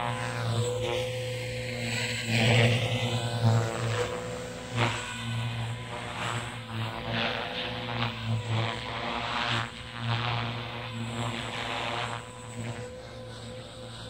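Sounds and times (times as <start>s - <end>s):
model helicopter rotor hum: 0.0s - 14.0s.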